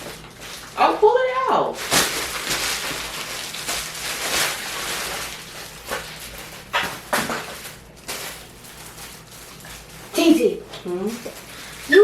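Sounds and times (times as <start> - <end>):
packaging rustling and crinkling: 0.0 - 1.0, 1.7 - 12.0.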